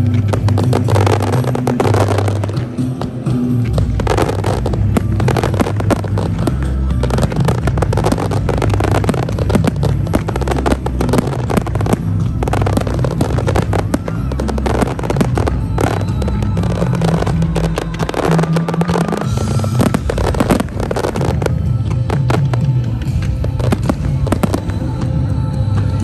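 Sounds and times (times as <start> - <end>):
fireworks bangs and crackling: 0.0 - 26.0
music: 0.0 - 26.0.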